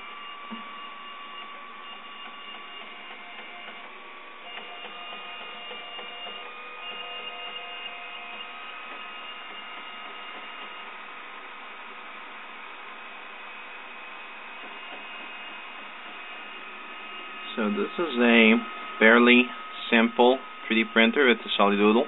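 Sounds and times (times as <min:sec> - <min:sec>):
stepper motors whining: 0:00.0 - 0:22.0.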